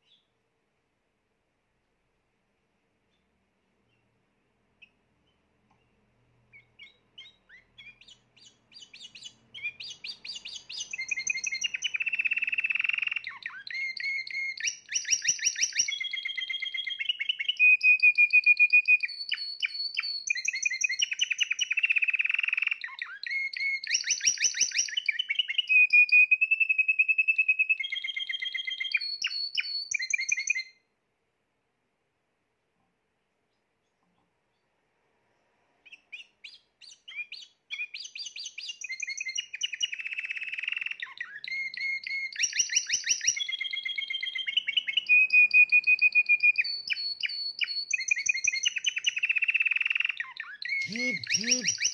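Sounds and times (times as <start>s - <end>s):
canary singing trills: 0.0s - 0.4s, 3.0s - 30.9s, 35.8s - 51.9s.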